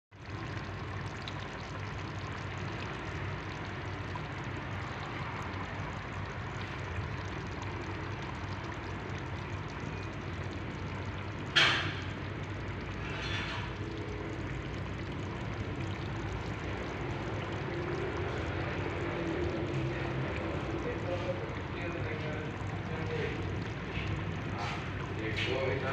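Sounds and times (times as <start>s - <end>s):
stew bubbling and hissing: 0.2s - 25.9s.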